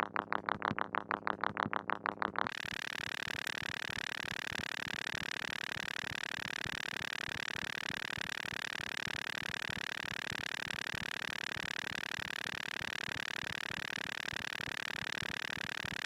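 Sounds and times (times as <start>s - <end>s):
buzzy synthesizer drone pulsing: 0.0s - 16.0s.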